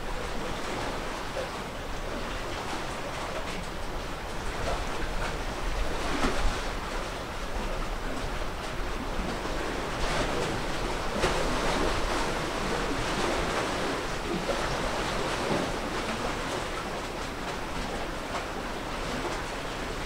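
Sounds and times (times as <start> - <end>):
sea waves washing: 0.0 - 20.0
wind: 0.0 - 20.0.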